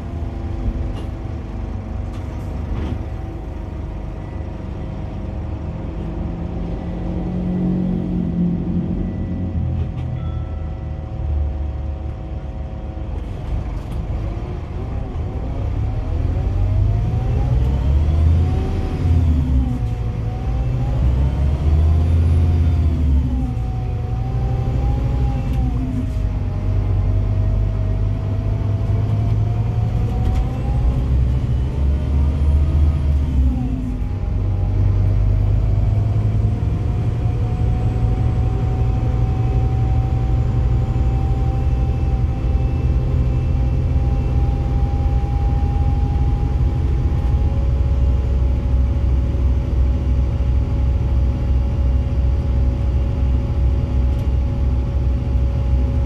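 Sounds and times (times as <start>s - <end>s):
diesel bus engine: 0.0s - 56.0s.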